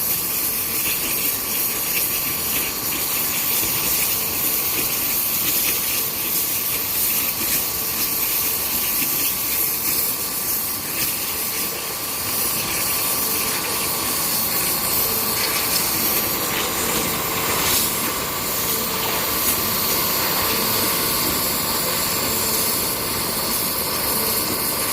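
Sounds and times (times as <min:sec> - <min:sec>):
machine whine: 0:00.0 - 0:24.9
stone-cutting machine hiss: 0:00.0 - 0:24.9.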